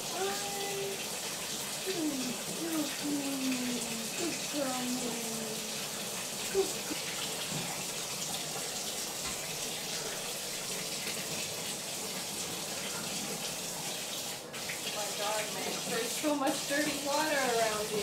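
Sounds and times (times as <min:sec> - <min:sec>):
tap water running into tub: 0:00.0 - 0:18.0.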